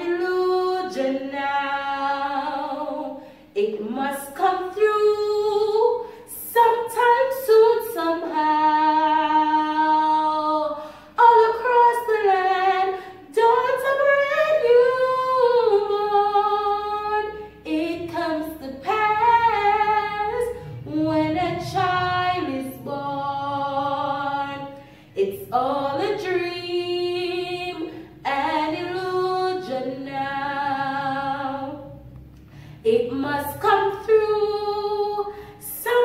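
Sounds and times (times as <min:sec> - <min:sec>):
woman singing unaccompanied: 0:00.0 - 0:32.0, 0:32.8 - 0:36.0.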